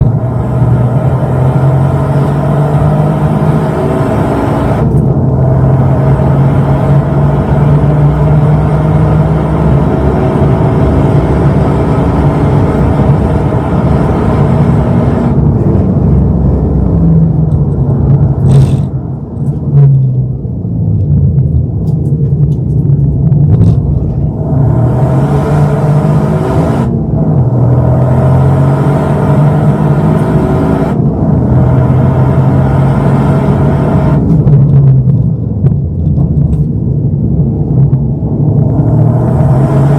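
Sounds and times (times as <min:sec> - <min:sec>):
car engine pulling hard: 0:00.0 - 0:20.5, 0:23.6 - 0:35.3, 0:37.1 - 0:39.9.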